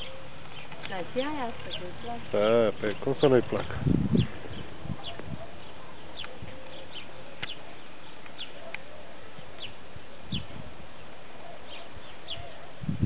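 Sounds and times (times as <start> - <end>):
birds chirping: 0.0 - 13.0
steady outdoor hiss: 0.0 - 13.0.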